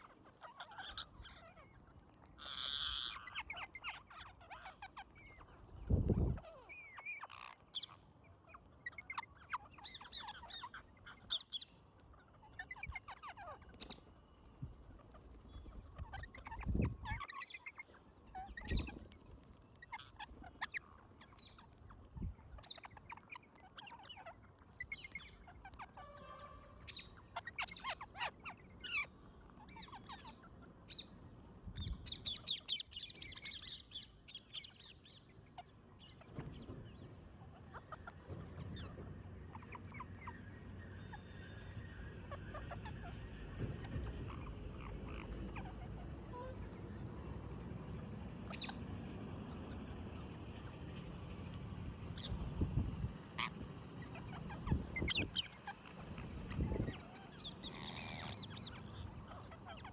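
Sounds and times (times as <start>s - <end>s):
parrots chirping and squawking: 0.0s - 1.8s, 2.4s - 5.6s, 6.3s - 14.0s, 15.0s - 22.0s, 22.6s - 34.0s, 37.6s - 47.6s, 48.4s - 48.8s, 50.6s - 59.9s.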